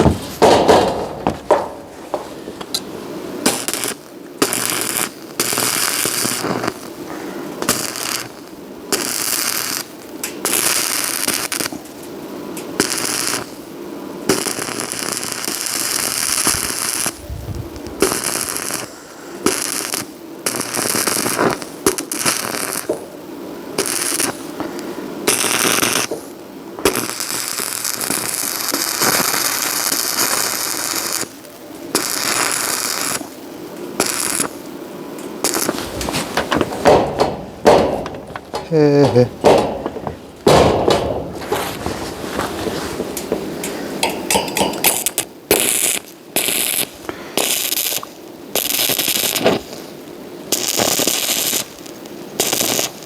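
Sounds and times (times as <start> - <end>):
welding arc crackling: 0.0 - 53.0.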